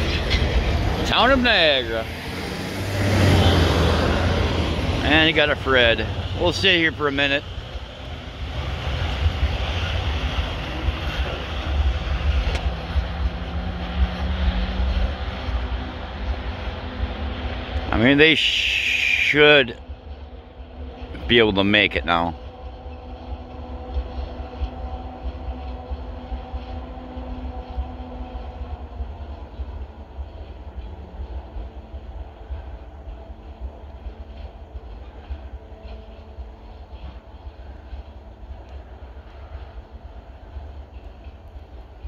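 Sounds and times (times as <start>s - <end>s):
diesel locomotive working: 0.0s - 42.0s
train cars rumbling on rails: 0.0s - 42.0s.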